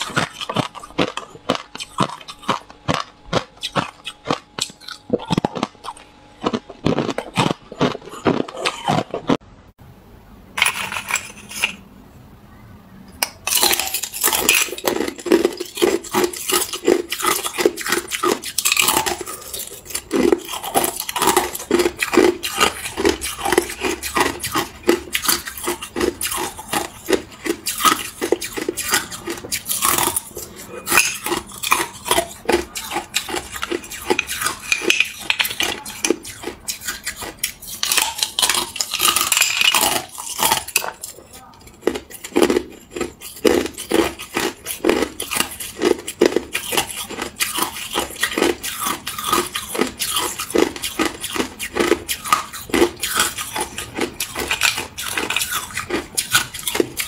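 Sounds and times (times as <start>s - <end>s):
ice crunching while chewed: 0.0s - 9.4s, 13.4s - 57.0s.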